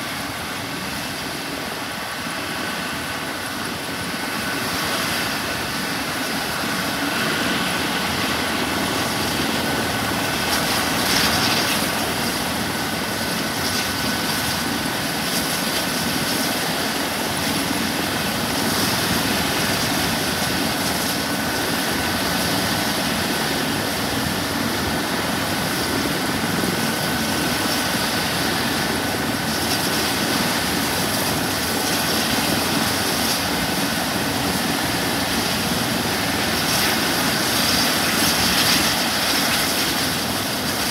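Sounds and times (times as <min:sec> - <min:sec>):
helicopter turbines and rotor: 0:00.0 - 0:40.9.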